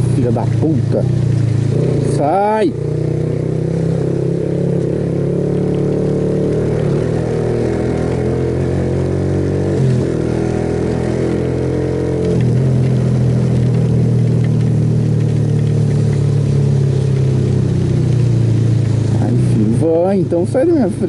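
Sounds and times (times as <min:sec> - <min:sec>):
motorcycle engine under throttle: 0:00.0 - 0:21.0.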